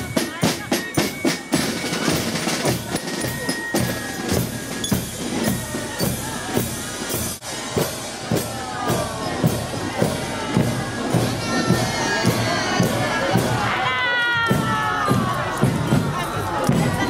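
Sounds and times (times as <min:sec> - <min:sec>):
marching drum corps: 0:00.0 - 0:17.0.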